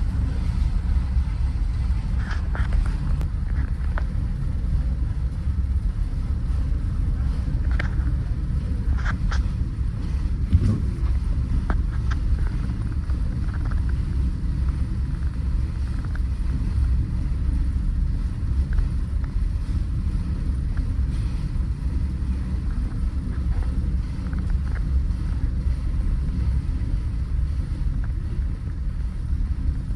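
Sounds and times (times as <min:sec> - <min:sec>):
ship engine drone: 0:00.0 - 0:29.9
wind on microphone: 0:00.0 - 0:29.9.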